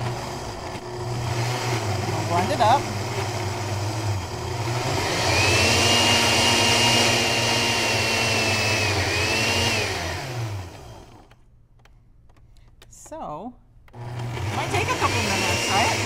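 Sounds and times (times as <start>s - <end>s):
blender motor whine: 0.0s - 11.4s, 13.9s - 16.0s.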